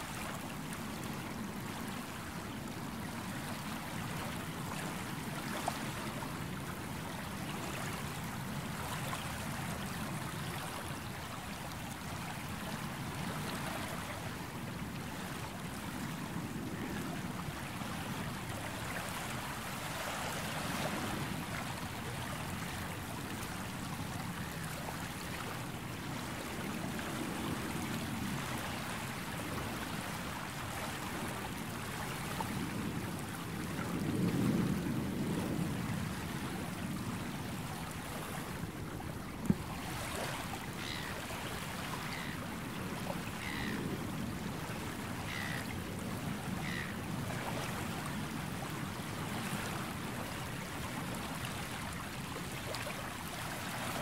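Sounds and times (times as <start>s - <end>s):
sea waves washing onto shore: 0.0s - 54.0s.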